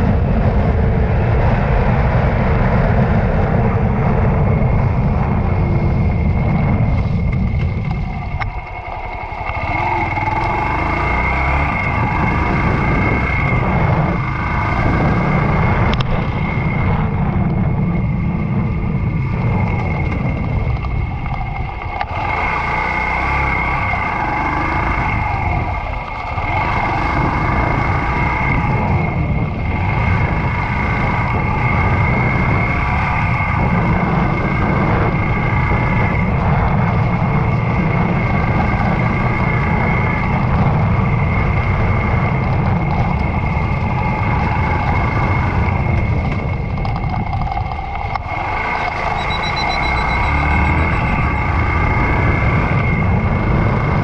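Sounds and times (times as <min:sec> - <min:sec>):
motorcycle engine running: 0:00.0 - 0:54.0
road noise: 0:00.0 - 0:54.0
wind noise: 0:00.0 - 0:54.0.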